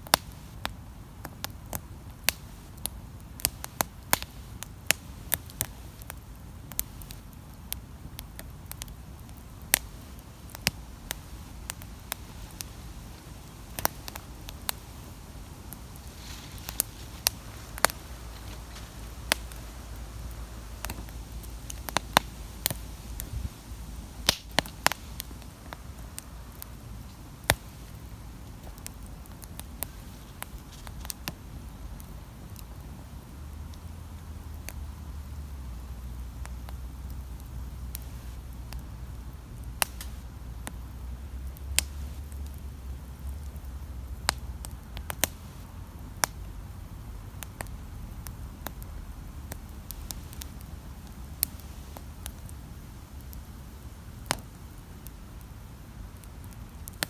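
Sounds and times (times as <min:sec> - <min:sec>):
campfire crackling and popping: 0:00.0 - 0:57.0
low steady rumble: 0:07.6 - 0:56.8.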